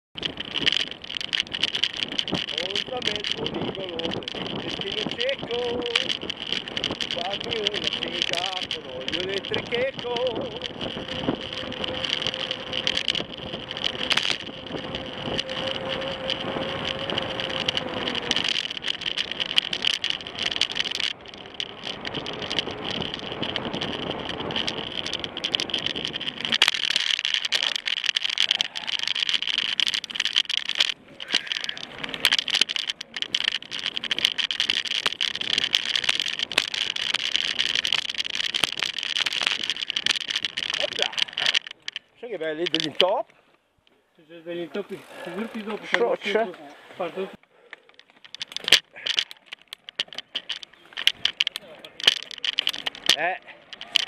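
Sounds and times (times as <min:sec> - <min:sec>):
bike rattling on rough trail: 0:00.1 - 0:54.0
wind and tyre noise: 0:00.1 - 0:54.0.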